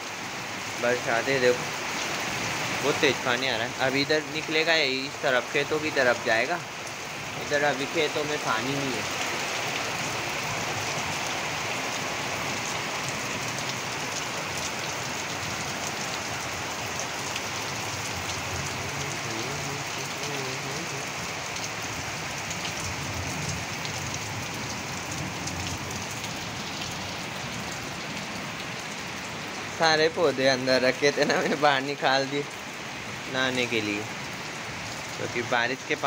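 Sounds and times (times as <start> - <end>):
heavy rain falling: 0.0 - 36.0.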